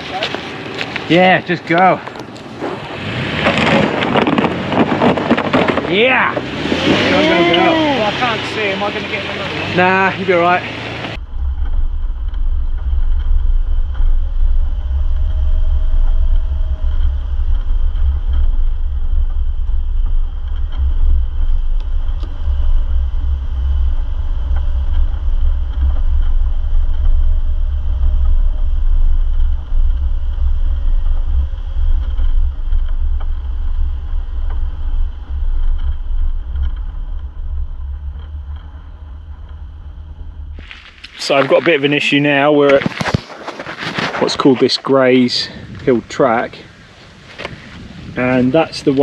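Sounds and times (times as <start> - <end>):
vehicle driving on rough track: 0.0 - 49.0.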